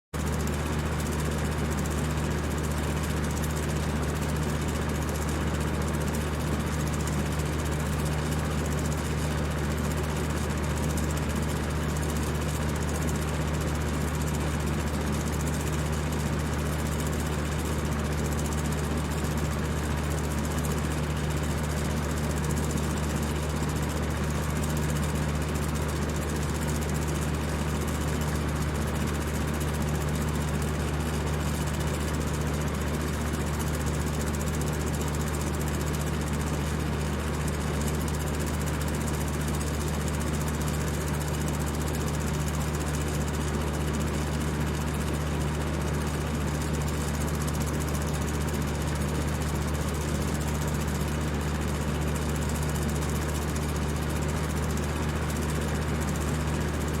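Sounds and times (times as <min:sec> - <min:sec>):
electric fan running: 0:00.2 - 0:57.0.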